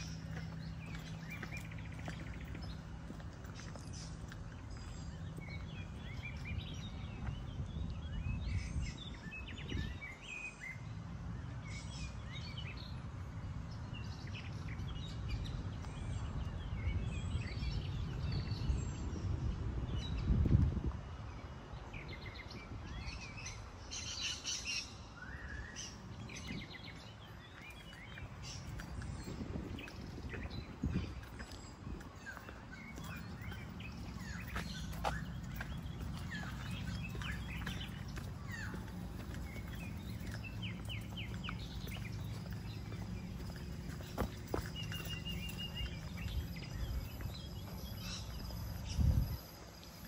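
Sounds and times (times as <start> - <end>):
small birds chirping: 0.0 - 20.5, 21.2 - 50.0
low rumbling background: 0.0 - 24.8, 25.4 - 50.0.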